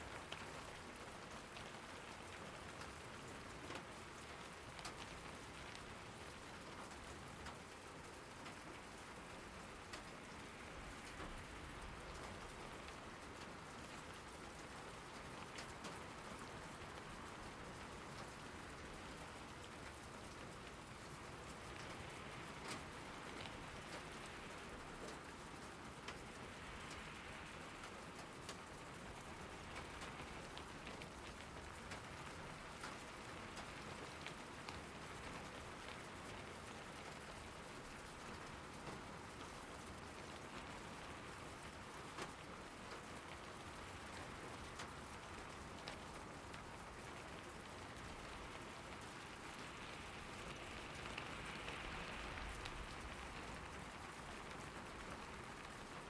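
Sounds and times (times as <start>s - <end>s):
rain falling on surfaces: 0.0s - 56.0s.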